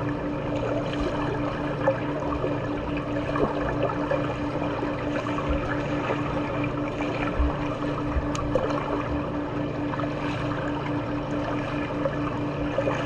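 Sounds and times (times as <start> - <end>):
low pulsing hum: 0.0 - 13.0
water splashing in pool: 0.5 - 13.0.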